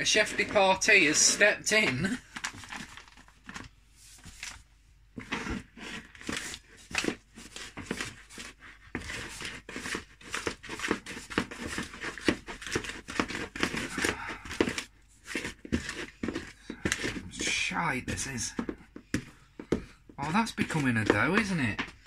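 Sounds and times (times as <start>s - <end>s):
hands kneading wet dough: 0.0s - 22.0s.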